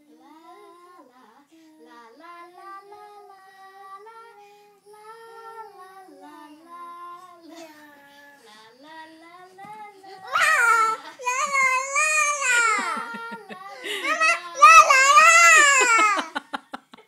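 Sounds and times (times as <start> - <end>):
child singing: 0.0 - 16.3.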